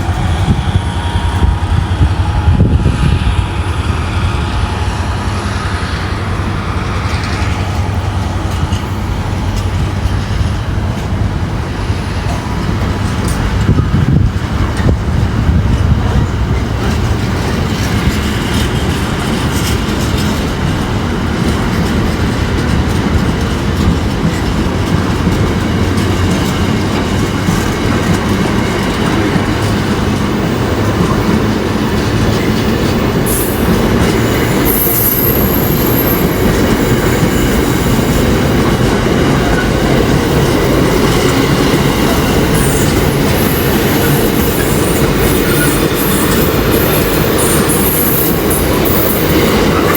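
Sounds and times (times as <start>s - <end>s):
train rumbling on rails: 0.0s - 49.9s.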